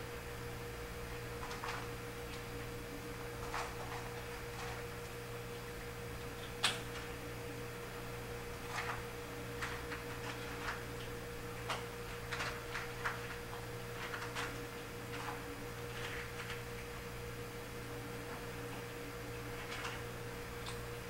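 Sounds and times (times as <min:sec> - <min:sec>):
steady electrical hum: 0:00.0 - 0:21.0
kittens eating with clicks and crunches: 0:01.1 - 0:05.2, 0:06.1 - 0:07.2, 0:08.3 - 0:17.0, 0:17.9 - 0:21.0.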